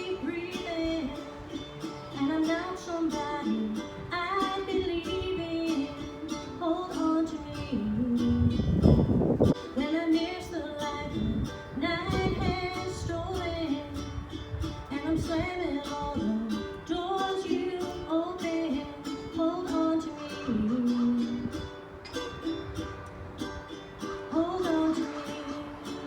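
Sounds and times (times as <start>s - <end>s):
strummed acoustic string instrument: 0.0s - 26.0s.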